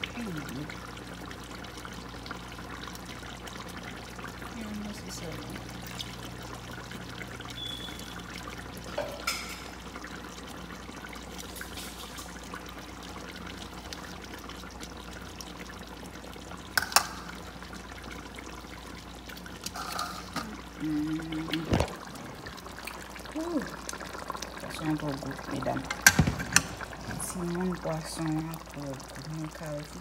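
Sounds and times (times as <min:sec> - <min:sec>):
liquid simmering in a pot: 0:00.0 - 0:30.0.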